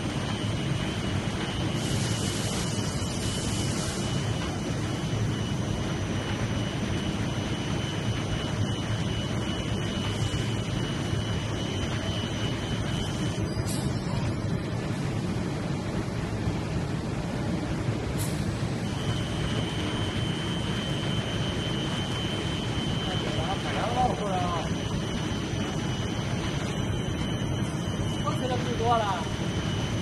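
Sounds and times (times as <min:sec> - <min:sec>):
thin high whine: 0:00.0 - 0:15.4, 0:18.1 - 0:30.0
production line running noise: 0:00.0 - 0:30.0.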